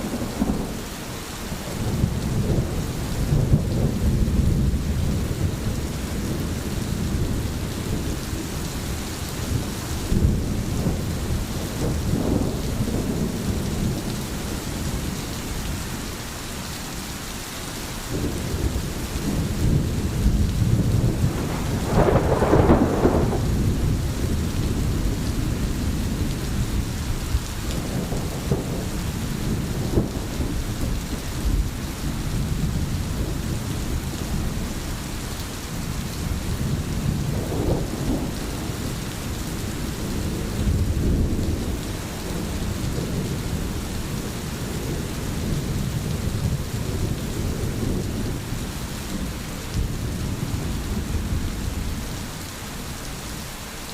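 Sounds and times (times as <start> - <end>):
deep thunder rumbles: 0.0 - 0.9, 1.5 - 15.2, 18.1 - 34.8, 35.8 - 52.0
rain falling: 0.0 - 53.9.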